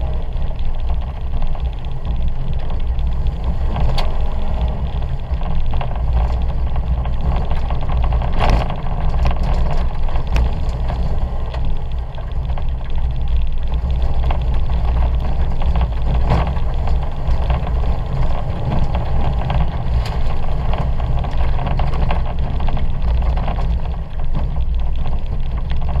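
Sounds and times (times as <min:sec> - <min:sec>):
car engine running hard: 0:00.0 - 0:26.0
tyres rumbling on dirt: 0:00.0 - 0:26.0.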